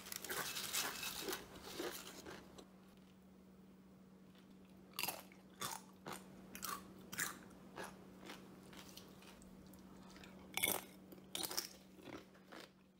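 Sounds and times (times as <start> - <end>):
crunching chips being chewed: 0.0 - 2.6, 4.3 - 12.9.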